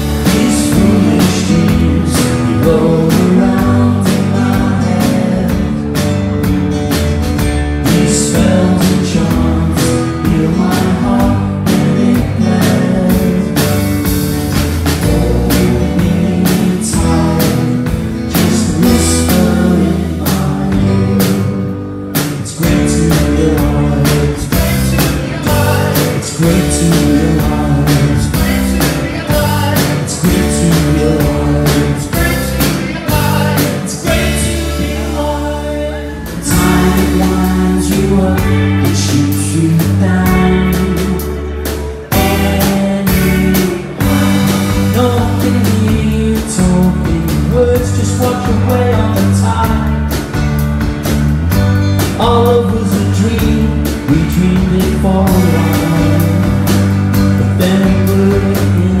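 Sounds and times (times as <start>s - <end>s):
live band playing: 0.0s - 59.0s
steady drum beat: 0.0s - 59.0s.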